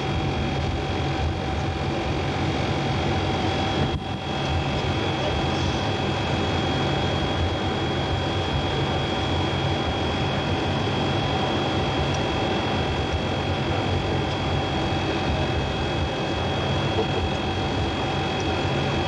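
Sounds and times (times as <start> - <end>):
aircraft engine and air rush: 0.0 - 19.0.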